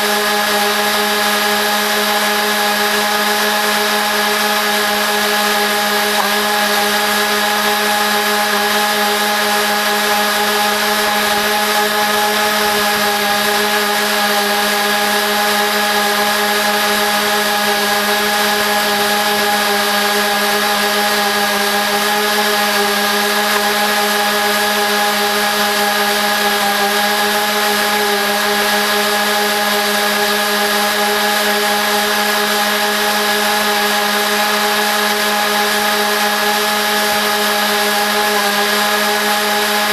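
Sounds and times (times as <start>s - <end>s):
sped-up lawn mower engine whine: 0.0s - 39.9s.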